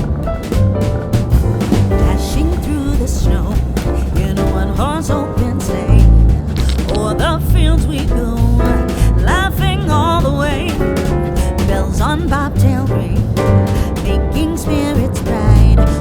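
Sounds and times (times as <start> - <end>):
drum and bass beat: 0.0 - 16.0.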